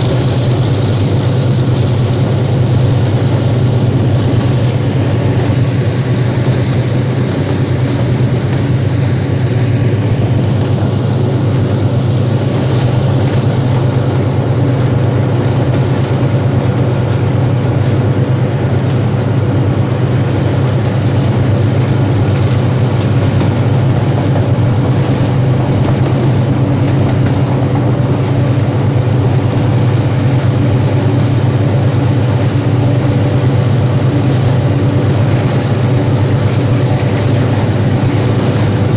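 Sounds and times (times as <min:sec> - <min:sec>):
locomotive engine deep drone: 0:00.0 - 0:38.9.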